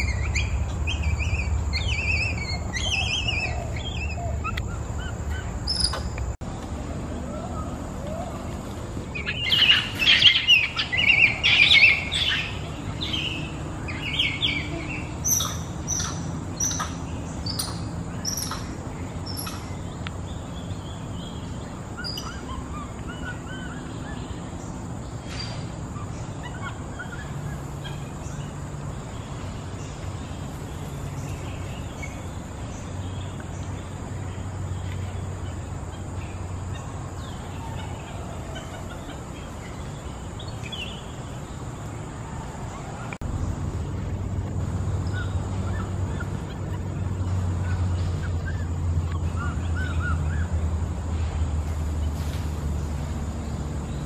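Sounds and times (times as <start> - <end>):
birds chattering: 0.0 - 54.0.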